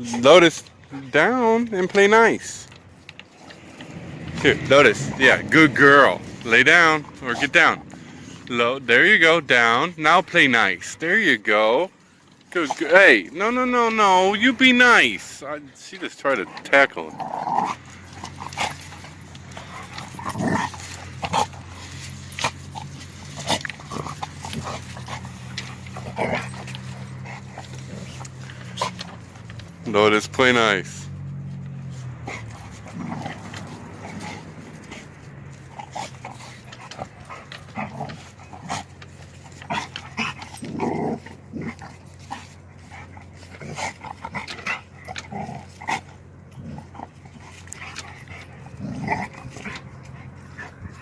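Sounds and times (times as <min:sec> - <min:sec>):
puppies scuffling: 0:00.0 - 0:51.0.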